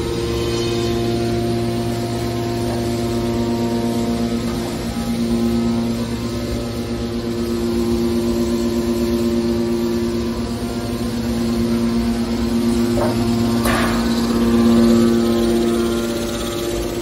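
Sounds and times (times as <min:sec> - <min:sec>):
hydraulic pump hum and whine: 0:00.0 - 0:17.0.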